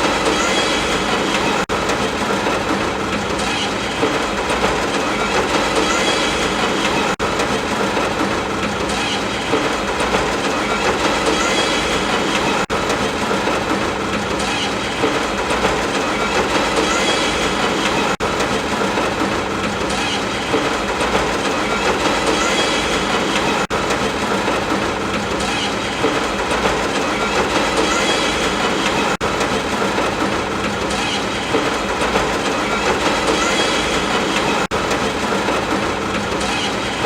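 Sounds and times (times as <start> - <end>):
rain heard inside moving train: 0.0 - 37.0.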